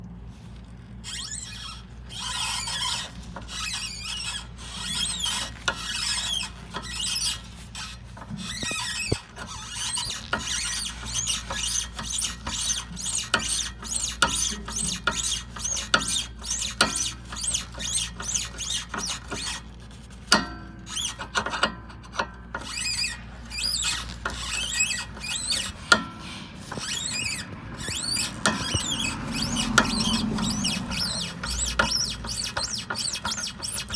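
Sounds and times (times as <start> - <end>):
stabilizer link squeaks and creaks: 0.4 - 33.9.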